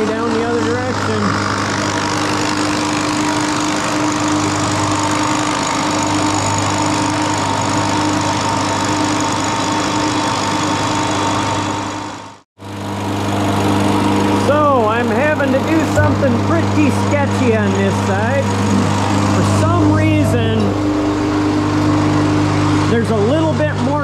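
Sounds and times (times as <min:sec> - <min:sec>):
constant motor hum: 0:00.0 - 0:24.0
cutter milling plywood: 0:00.0 - 0:24.0.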